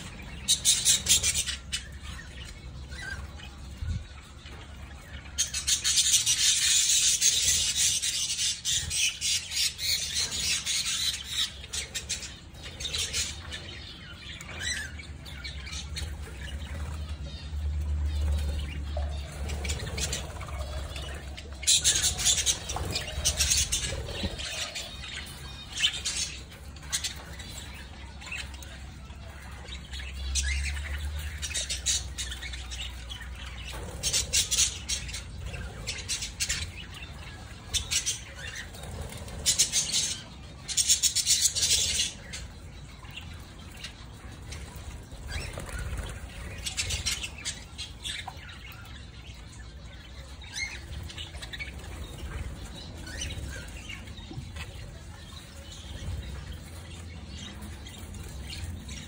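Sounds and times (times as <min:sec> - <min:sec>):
birds wing flapping and rustling: 0:04.4 - 0:28.6, 0:29.4 - 0:49.5, 0:50.4 - 0:59.0.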